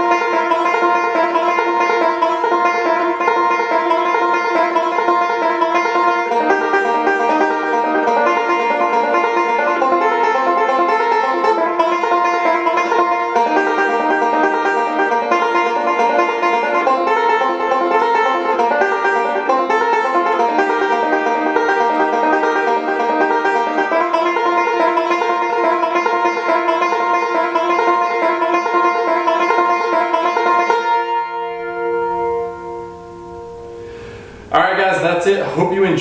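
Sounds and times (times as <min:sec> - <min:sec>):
banjo picking: 0:00.0 - 0:36.0.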